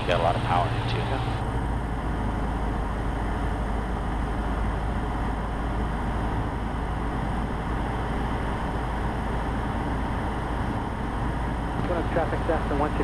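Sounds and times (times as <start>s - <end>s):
aircraft engine and propeller running: 0.0s - 13.0s.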